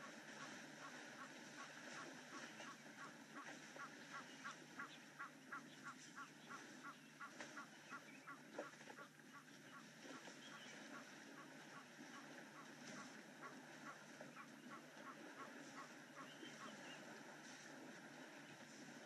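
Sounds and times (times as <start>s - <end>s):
outdoor waterhole ambience: 0.0s - 19.0s.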